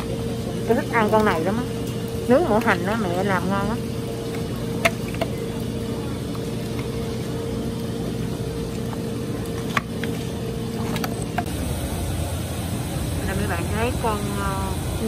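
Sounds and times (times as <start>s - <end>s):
background hum with held tone: 0.0s - 15.0s.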